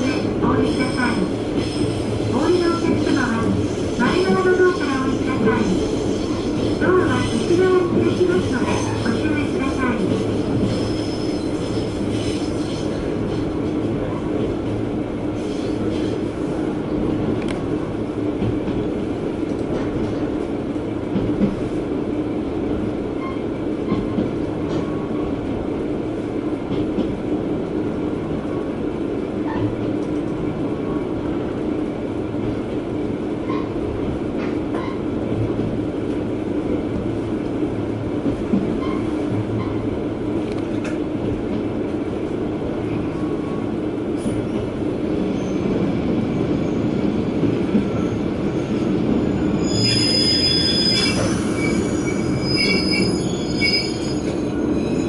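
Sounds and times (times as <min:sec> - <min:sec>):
diesel railcar engine and rolling rumble: 0:00.0 - 0:55.0.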